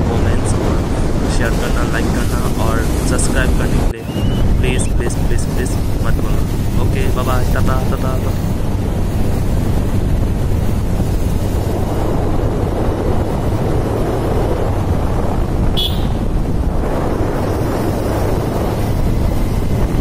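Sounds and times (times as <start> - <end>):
vehicle road and engine noise: 0.0 - 20.0
wind on microphone: 0.0 - 20.0.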